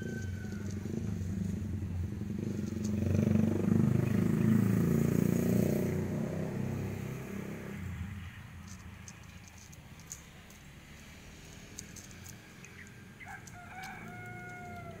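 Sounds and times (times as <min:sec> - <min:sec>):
passing vehicle engine: 0:00.0 - 0:15.0.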